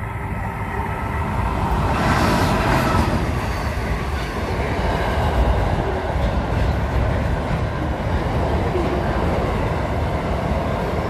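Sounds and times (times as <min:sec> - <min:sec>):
diesel freight train passing: 0:00.0 - 0:11.0.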